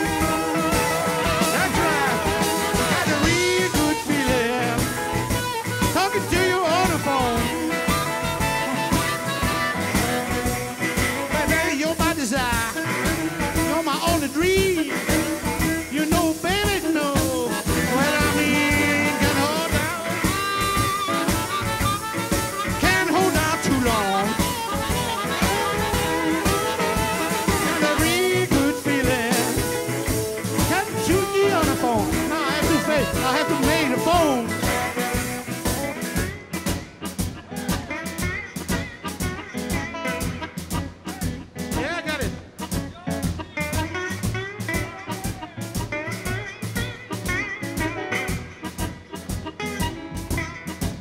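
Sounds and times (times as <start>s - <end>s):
blues band playing: 0.0s - 51.0s.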